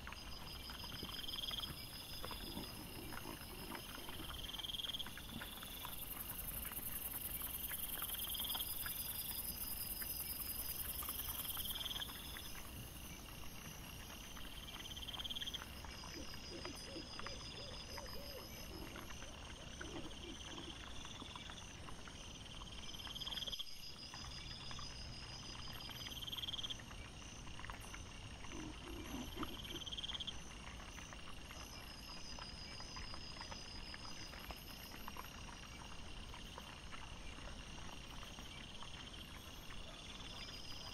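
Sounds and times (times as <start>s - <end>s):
night insects chirping: 0.0s - 40.9s.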